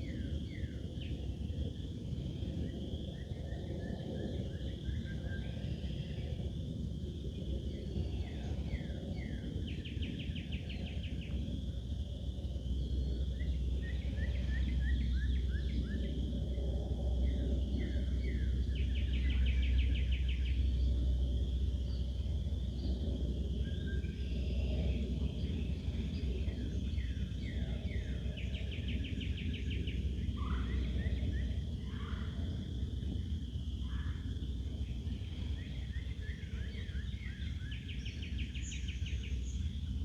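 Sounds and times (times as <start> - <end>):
steady low rumble: 0.0 - 40.0
songbird singing: 7.5 - 40.0.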